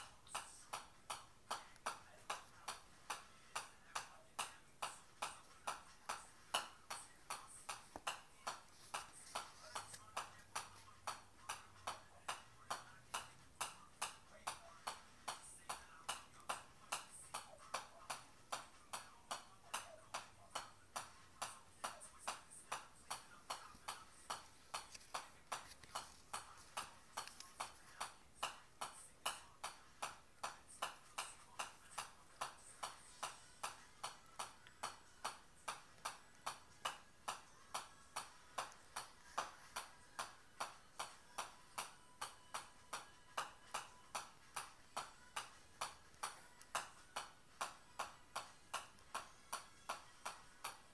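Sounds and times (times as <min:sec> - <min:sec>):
golf ball tapping on club face: 0:00.0 - 0:50.9.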